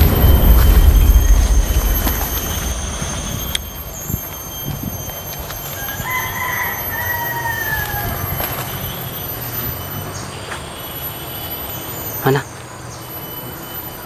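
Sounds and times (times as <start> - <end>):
insects droning: 0.0 - 14.0
shrill insect whines: 0.0 - 14.0.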